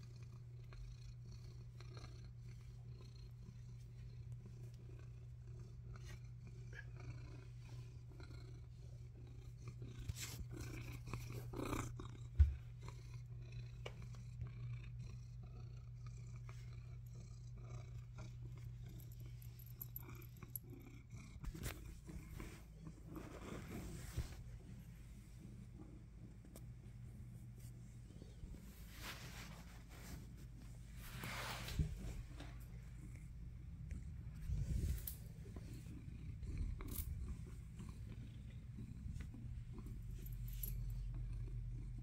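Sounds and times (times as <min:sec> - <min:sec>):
cat purring: 0:00.0 - 0:42.0.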